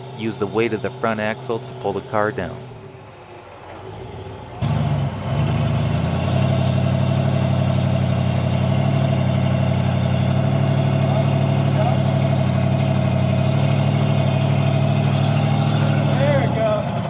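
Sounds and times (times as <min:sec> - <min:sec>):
off-road engine idling: 0:00.0 - 0:17.0.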